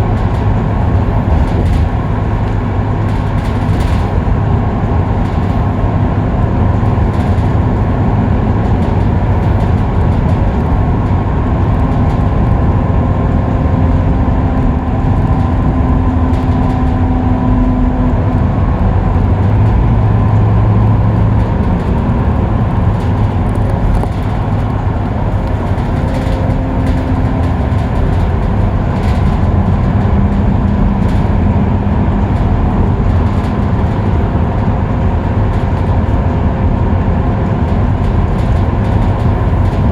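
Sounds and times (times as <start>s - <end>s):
diesel bus engine drone: 0.0s - 39.9s
low hum: 0.0s - 39.9s
road and tyre noise: 0.0s - 39.9s.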